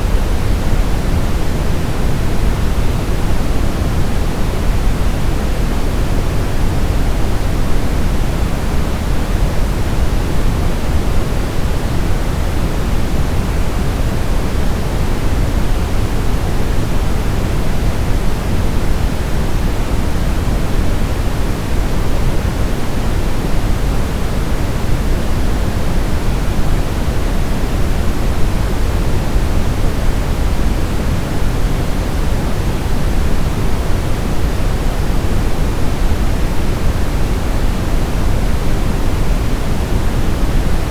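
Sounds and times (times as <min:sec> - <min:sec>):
steady pink noise: 0:00.0 - 0:40.9.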